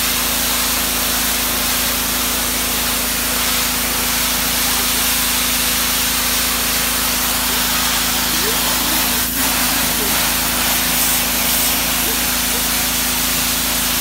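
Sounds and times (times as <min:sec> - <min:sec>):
water jet hissing on concrete: 0:00.0 - 0:14.0.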